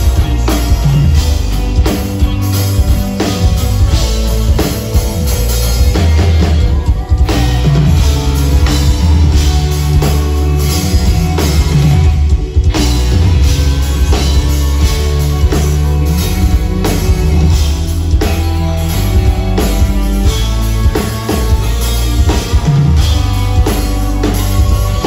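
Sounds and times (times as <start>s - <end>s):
drum kit beat: 0.0s - 25.0s
electric guitar: 0.0s - 25.0s
heavy bass: 0.0s - 25.0s.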